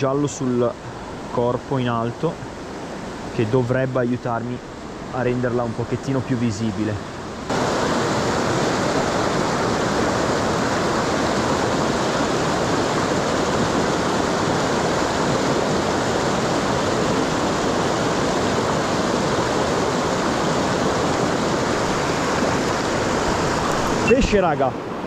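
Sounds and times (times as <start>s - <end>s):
mountain torrent rushing: 0.0s - 25.0s.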